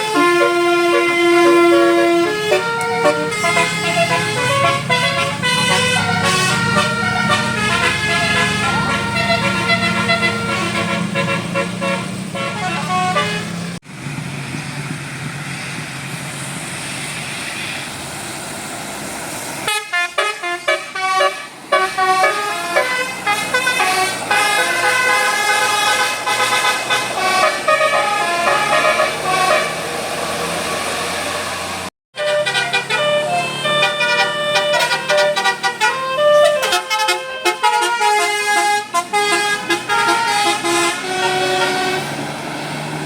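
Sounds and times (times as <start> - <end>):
multi-tone bus horn melody: 0.0 - 13.8, 19.6 - 42.7
bus engine hum: 0.0 - 43.0
traffic noise: 0.0 - 43.0.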